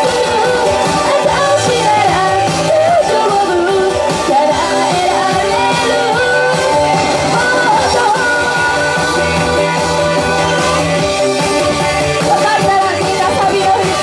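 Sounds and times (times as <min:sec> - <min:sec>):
woman singing into microphone: 0:00.0 - 0:11.2, 0:12.2 - 0:14.0
loud backing music: 0:00.0 - 0:14.0.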